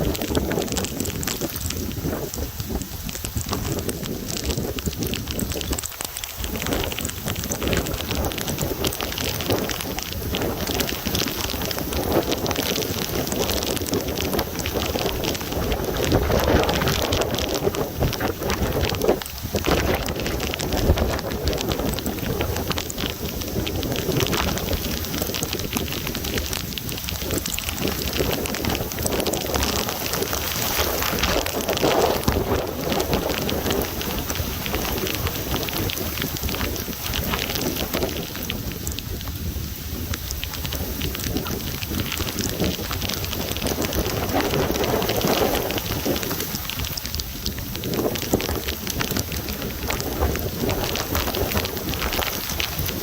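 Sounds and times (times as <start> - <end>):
heavy rain: 0.0 - 53.0
raindrops hitting surfaces: 0.0 - 53.0
wind rumble on microphone: 0.0 - 53.0.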